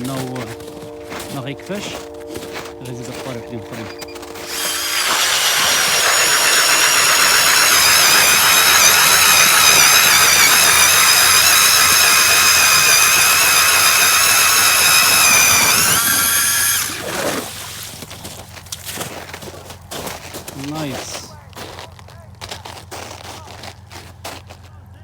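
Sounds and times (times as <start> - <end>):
power ice auger motor whine: 0.0 - 21.3.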